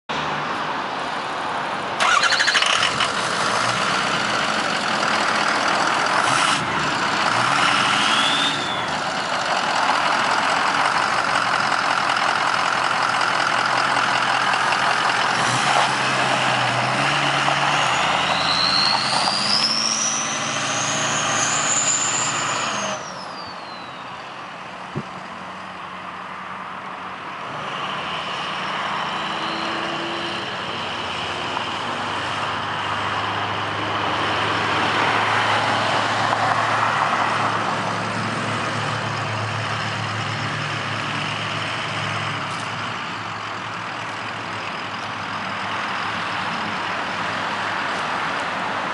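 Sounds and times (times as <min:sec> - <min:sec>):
truck engine starting and running: 0:00.1 - 0:48.9.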